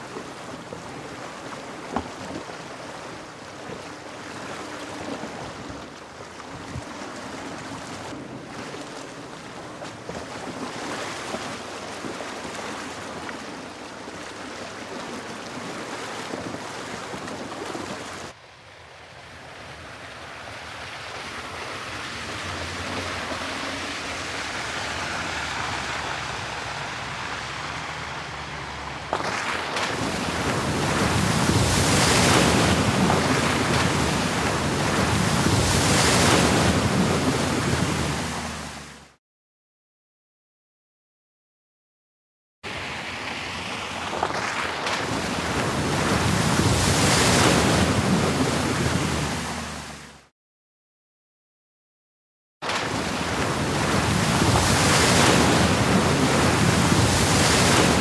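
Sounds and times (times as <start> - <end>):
deep rush of water: 0.0 - 39.2, 42.7 - 50.3, 52.6 - 58.0
water rushing and splashing: 0.0 - 39.2, 42.6 - 50.3, 52.6 - 58.0.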